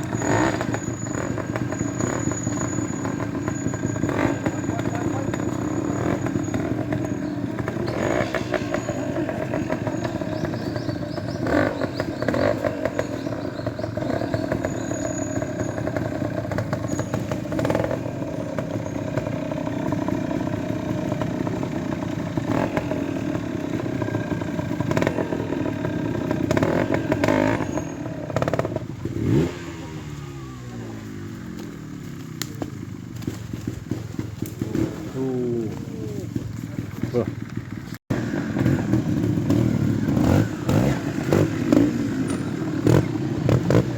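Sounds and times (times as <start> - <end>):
motorcycle clattering over obstacles: 0.0 - 43.9
motorcycle engine throttle blips: 0.0 - 43.9.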